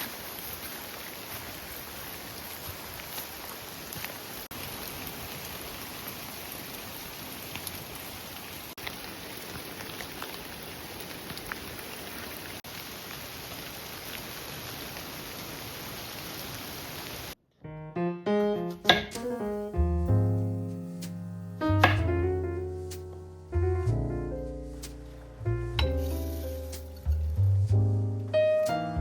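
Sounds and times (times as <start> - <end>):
rain falling: 0.0 - 17.4, 19.1 - 29.0.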